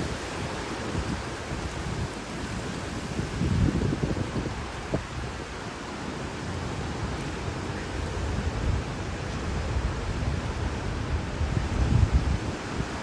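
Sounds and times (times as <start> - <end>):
hurricane wind on microphone: 0.0 - 13.0.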